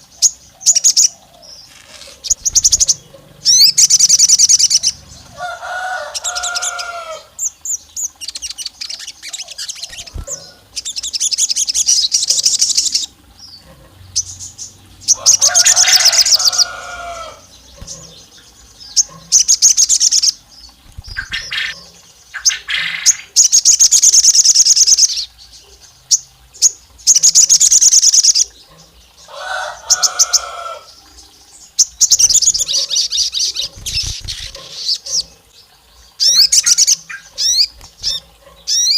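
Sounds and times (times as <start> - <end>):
bird chattering trills: 0.0 - 25.3, 31.8 - 35.4, 36.2 - 38.9.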